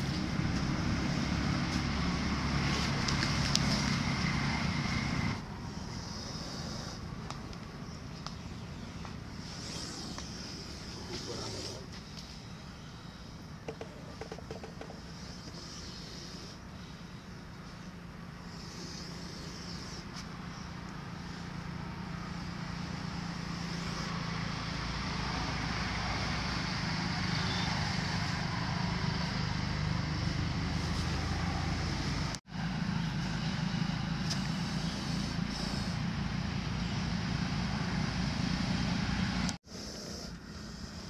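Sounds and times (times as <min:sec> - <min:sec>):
low engine-like rumble: 0:00.0 - 0:41.0.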